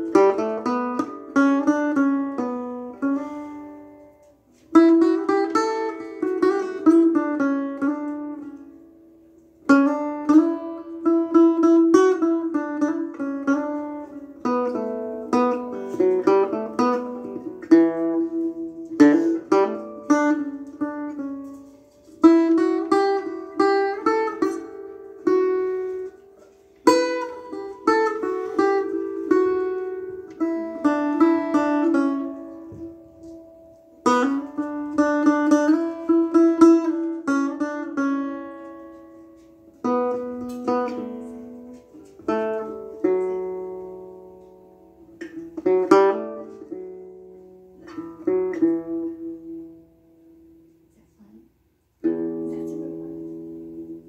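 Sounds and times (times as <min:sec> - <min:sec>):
solo acoustic guitar melody: 0:00.0 - 0:54.0.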